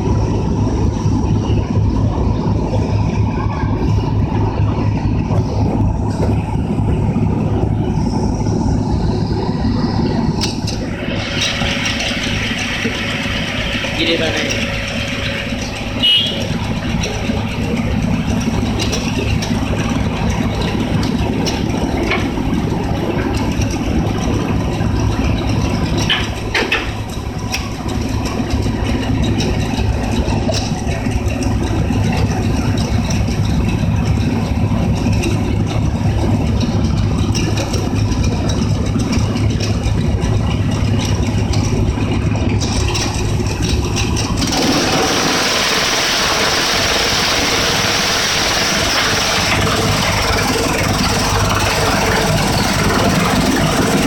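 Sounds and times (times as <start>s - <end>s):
engine idling with low rumble: 0.0s - 54.0s.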